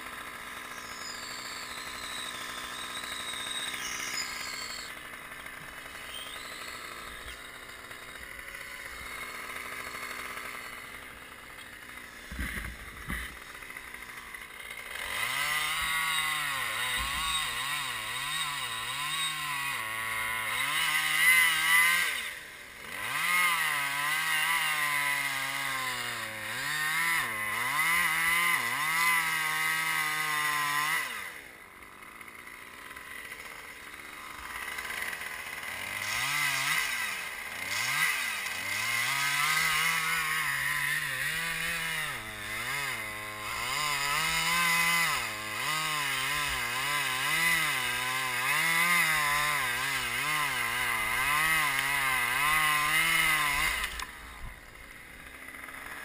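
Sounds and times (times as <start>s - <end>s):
chainsaw cutting: 0.0s - 56.0s.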